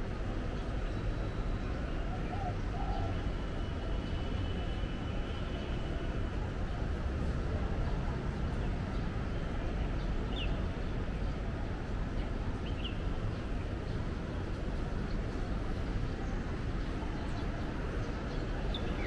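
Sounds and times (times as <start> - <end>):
traffic hum: 0.0 - 19.0.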